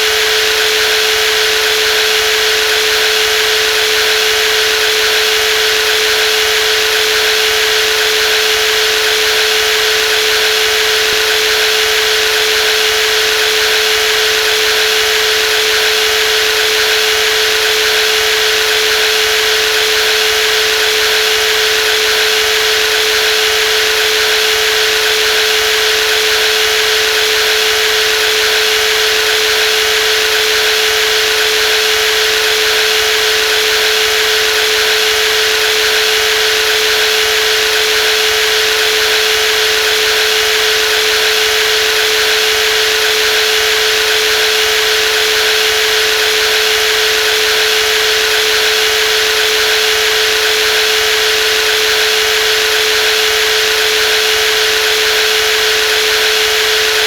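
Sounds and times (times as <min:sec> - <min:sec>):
jigsaw motor whining: 0:00.0 - 0:57.0.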